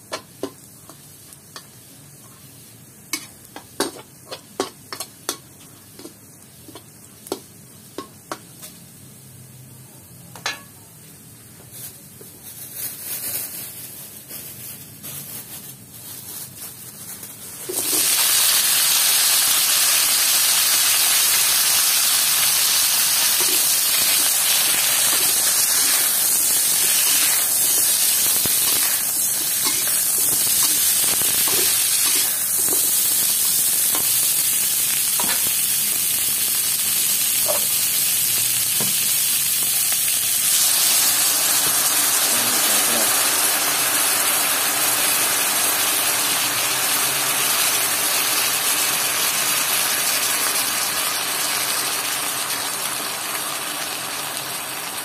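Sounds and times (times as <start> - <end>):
corn sizzling in hot oil: 0.0 - 9.7, 11.7 - 55.0.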